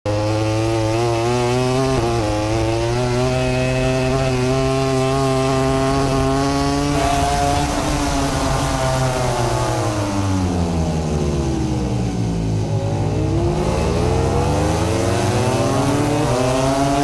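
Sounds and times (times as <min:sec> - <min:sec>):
racing motorcycle engine high revs: 0:00.1 - 0:17.0.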